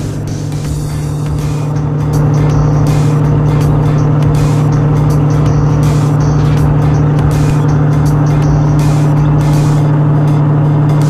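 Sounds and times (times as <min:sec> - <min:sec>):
background music: 0:00.0 - 0:11.0
ferry engines droning: 0:00.0 - 0:11.0.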